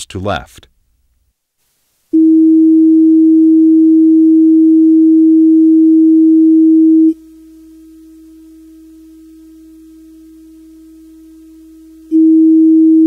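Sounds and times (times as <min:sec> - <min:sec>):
low sine test tone: 0:02.1 - 0:13.0.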